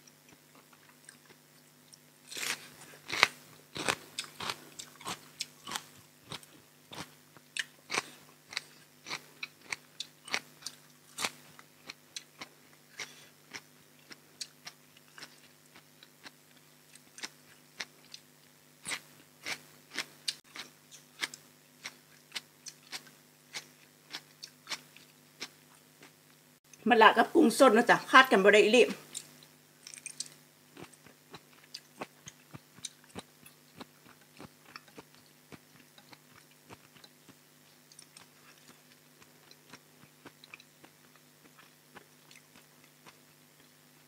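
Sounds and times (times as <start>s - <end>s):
crunching and chewing food: 0.0s - 26.8s, 29.0s - 44.0s
faint low hum: 0.0s - 44.0s.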